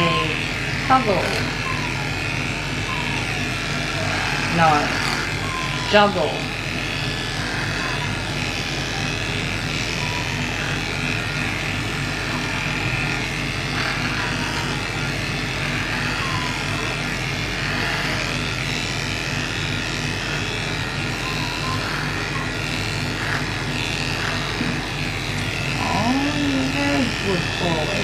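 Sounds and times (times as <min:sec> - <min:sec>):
electric clippers humming: 0:00.0 - 0:28.0.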